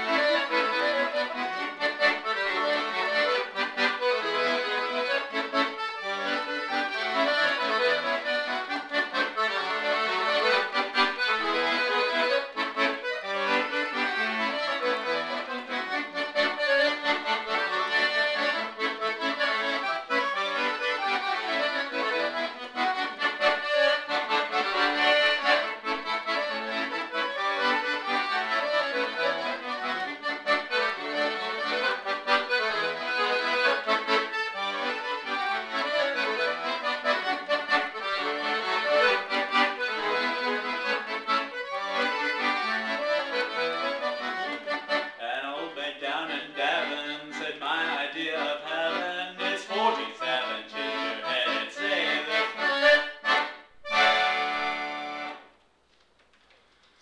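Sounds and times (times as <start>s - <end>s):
solo accordion playing: 0.0s - 55.6s.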